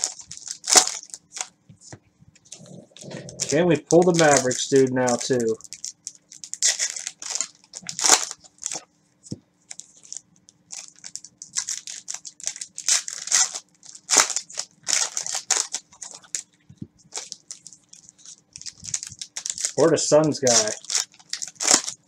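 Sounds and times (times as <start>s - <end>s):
wrappers crinkling and tearing: 0.0s - 1.5s, 2.4s - 8.8s, 9.7s - 22.0s.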